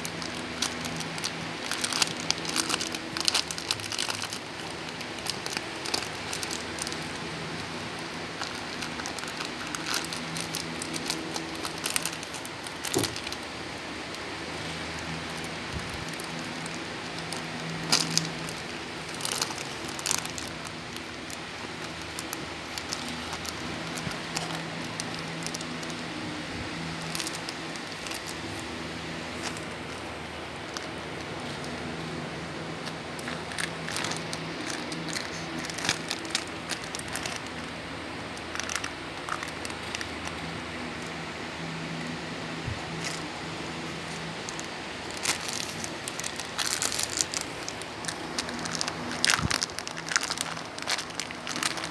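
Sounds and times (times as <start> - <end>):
plastic wrapper crinkling: 0.0 - 41.2, 42.7 - 51.9
steady low hum: 0.0 - 51.9.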